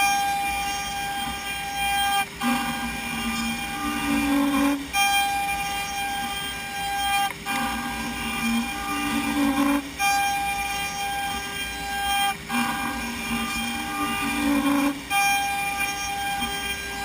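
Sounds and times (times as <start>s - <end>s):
cnc router spindle whine: 0.0s - 17.0s
router cutting wood: 0.0s - 17.0s.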